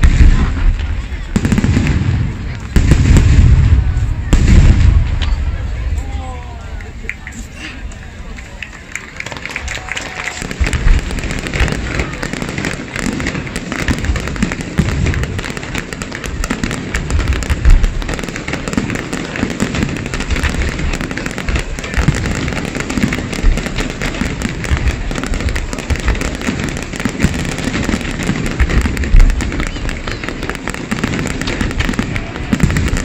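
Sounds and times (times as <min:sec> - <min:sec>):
deep firework shell bursts: 0:00.0 - 0:06.2, 0:10.2 - 0:33.0
fireworks crackling and popping: 0:00.0 - 0:33.0.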